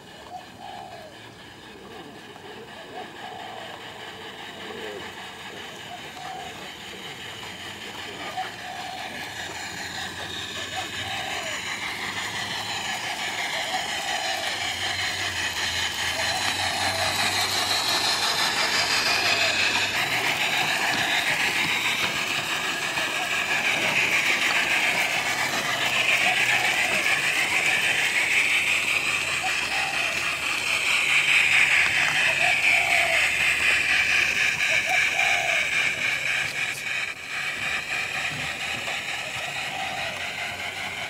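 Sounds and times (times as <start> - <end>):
model train wheels hissing on rail: 0.0 - 41.0.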